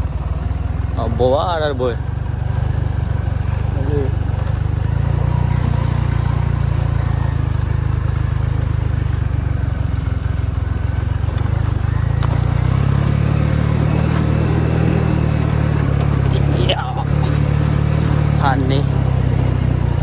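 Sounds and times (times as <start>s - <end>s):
motorbike engine running: 0.0s - 20.0s.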